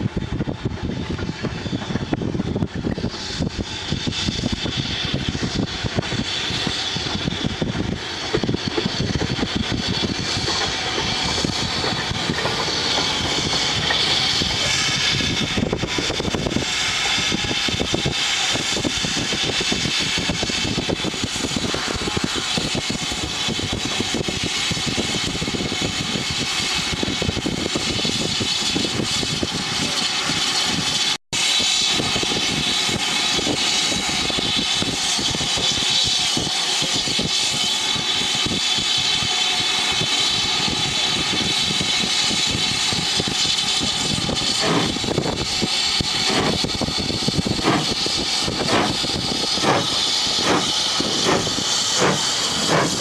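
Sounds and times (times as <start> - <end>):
steam hissing: 0.0 - 53.0
steam locomotive running slowly: 0.0 - 53.0
wind buffeting microphone: 0.0 - 53.0.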